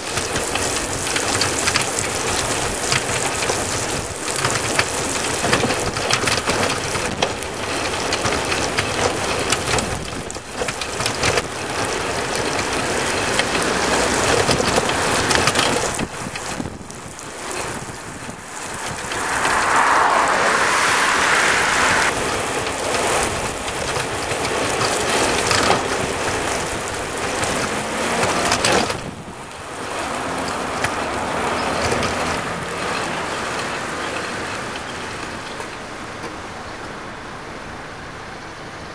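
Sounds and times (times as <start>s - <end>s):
trailer and bike frame rattling: 0.0s - 19.1s, 22.2s - 37.0s
tyres hissing on wet asphalt: 0.0s - 38.9s.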